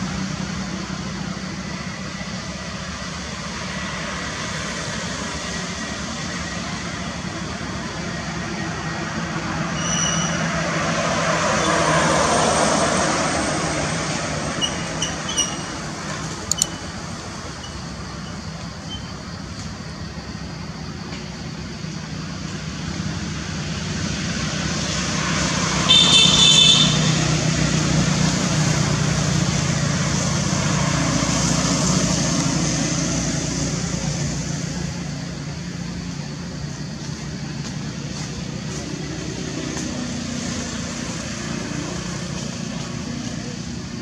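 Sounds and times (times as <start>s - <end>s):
vehicle engine passing: 0.0s - 18.2s, 22.2s - 44.0s.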